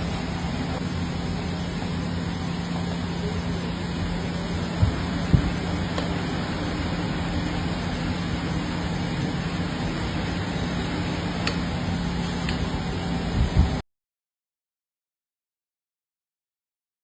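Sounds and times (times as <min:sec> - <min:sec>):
machine humming: 0:00.0 - 0:13.8.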